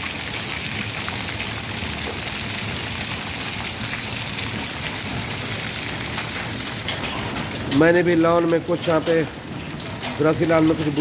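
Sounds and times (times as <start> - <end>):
hail and rain falling: 0.0 - 11.0.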